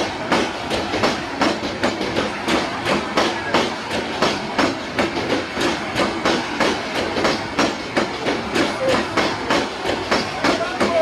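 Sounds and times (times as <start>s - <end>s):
train wheels clacking over rail joints: 0.0s - 11.0s.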